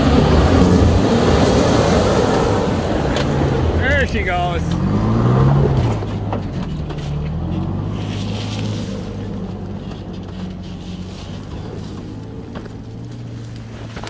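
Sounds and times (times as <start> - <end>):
pickup truck engine driving off: 0.0 - 14.0.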